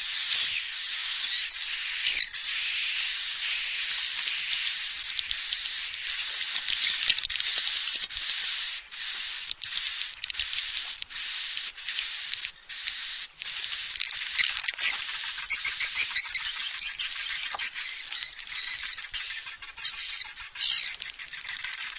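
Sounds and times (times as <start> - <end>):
rapid sharp chirps: 0.0 - 21.9
swiftlet twittering: 0.0 - 21.9.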